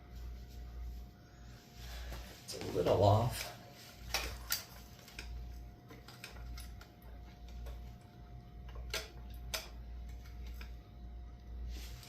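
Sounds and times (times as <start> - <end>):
faint low hum: 0.0 - 12.0
thin steady whine: 0.0 - 12.0.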